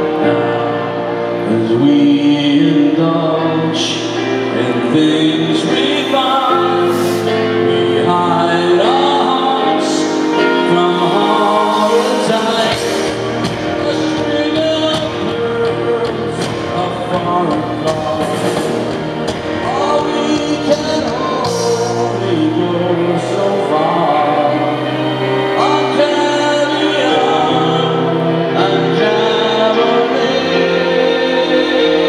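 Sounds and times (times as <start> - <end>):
man singing: 0.0 - 32.0
piano and band accompaniment: 0.0 - 32.0.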